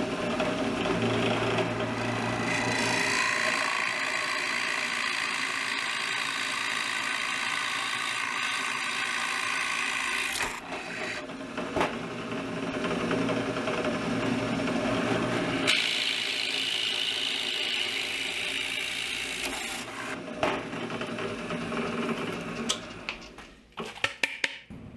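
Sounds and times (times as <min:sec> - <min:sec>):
drill press whine boring wood: 0:00.0 - 0:23.1.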